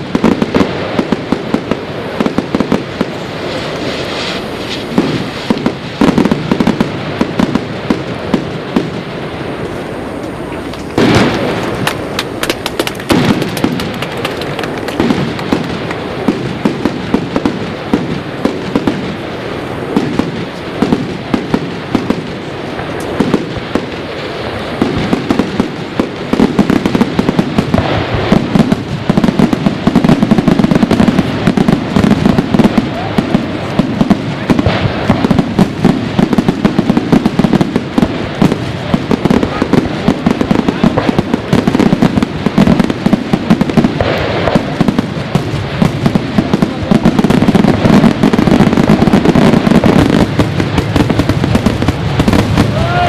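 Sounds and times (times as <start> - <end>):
fireworks crackling and popping: 0.0 - 53.0.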